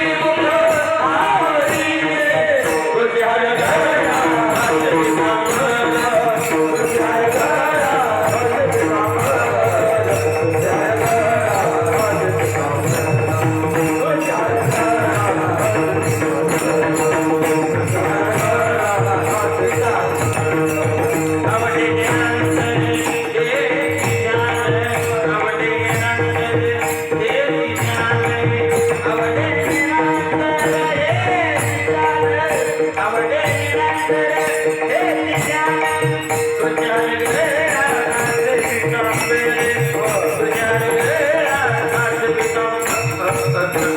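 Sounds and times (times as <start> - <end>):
jingling hand cymbals: 0.0 - 43.9
person singing: 0.0 - 43.9.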